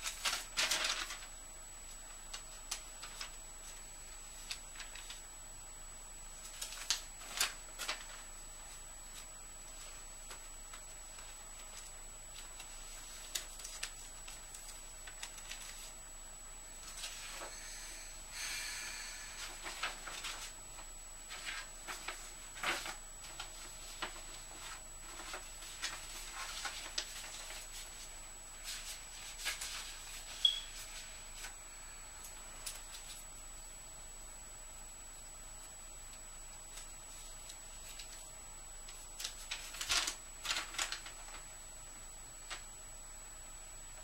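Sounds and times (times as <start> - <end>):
paper rustling and crinkling: 0.0 - 5.3, 6.3 - 16.1, 16.8 - 17.6, 19.4 - 31.6, 32.2 - 33.4, 35.1 - 41.6.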